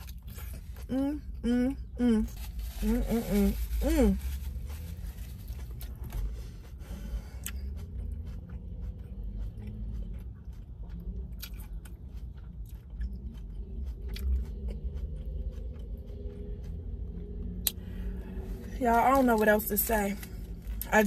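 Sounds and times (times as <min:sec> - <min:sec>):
chewing burger: 0:00.0 - 0:21.0.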